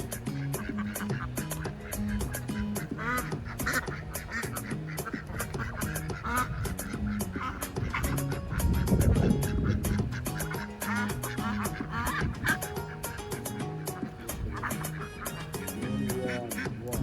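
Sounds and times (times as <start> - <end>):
ducks quacking: 0.0 - 17.0
music with steady beat: 0.0 - 17.0.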